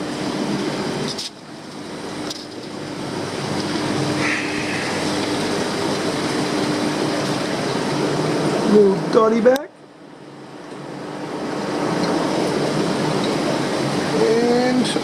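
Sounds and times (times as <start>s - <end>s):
aquarium equipment rushing hum: 0.0s - 15.0s.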